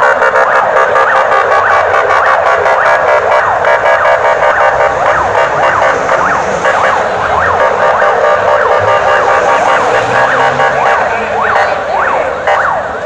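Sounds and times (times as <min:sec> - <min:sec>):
electronic vehicle siren: 0:00.0 - 0:13.0
steady tones: 0:00.0 - 0:13.0.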